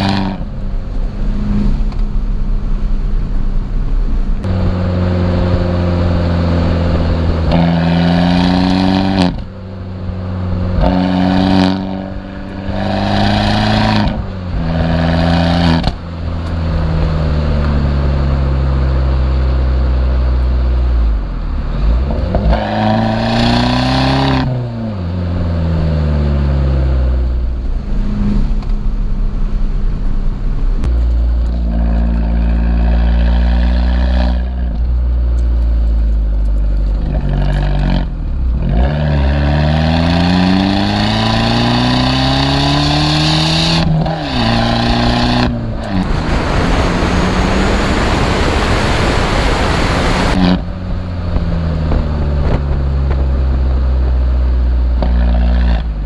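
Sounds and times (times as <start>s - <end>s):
car engine accelerating through gears: 4.2s - 56.0s.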